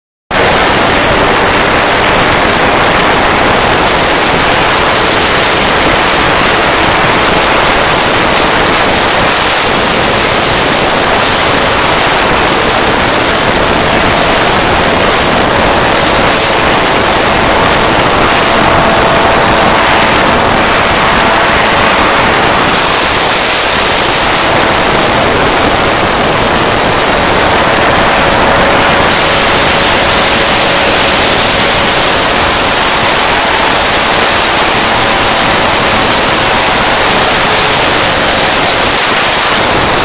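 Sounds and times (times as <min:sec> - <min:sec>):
aircraft engine at full throttle: 0:00.3 - 0:40.0
wind rushing on microphone: 0:00.3 - 0:40.0.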